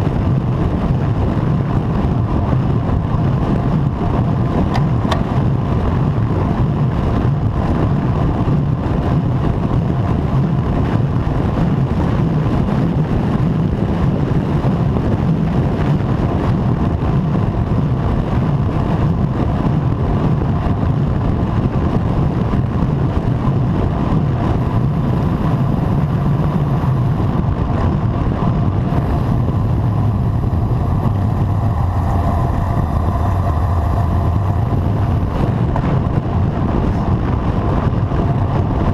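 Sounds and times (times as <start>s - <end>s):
low road rumble: 0.0s - 38.9s
wind rush over microphone: 0.0s - 38.9s.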